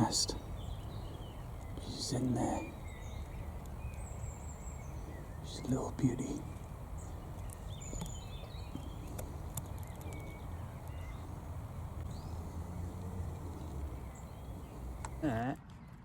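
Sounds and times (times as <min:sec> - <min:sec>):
twig-like clicks and rustling: 0:00.0 - 0:15.2
wind rumble: 0:00.0 - 0:15.2
faint bird chirps: 0:00.0 - 0:15.4.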